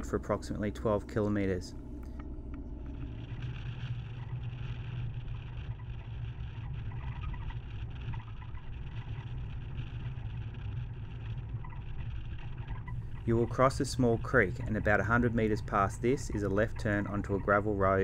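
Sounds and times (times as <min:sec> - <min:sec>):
vehicle driving on road: 0:00.0 - 0:17.9.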